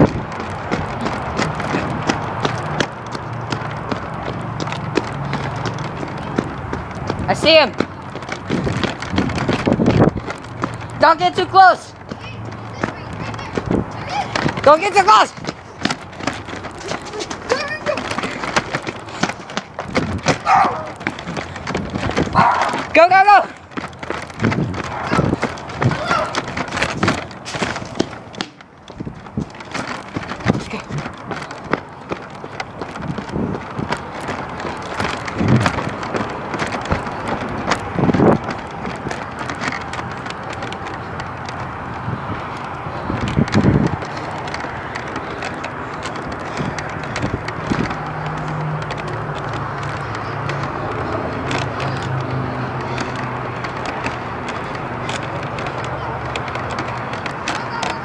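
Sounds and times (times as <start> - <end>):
camera rustling and jostling: 0.0 - 11.0, 12.0 - 58.0
low rumbles: 0.0 - 58.0
running footsteps on pavement: 0.0 - 58.0.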